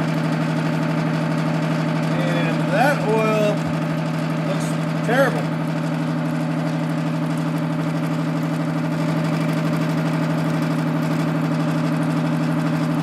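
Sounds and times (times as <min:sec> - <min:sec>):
pump humming: 0:00.0 - 0:13.0.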